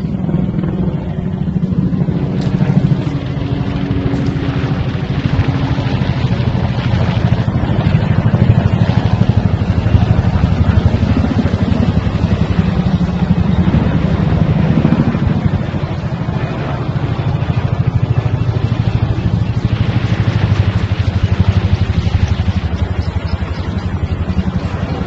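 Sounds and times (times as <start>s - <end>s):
helicopter rotor thudding: 0.0s - 25.0s.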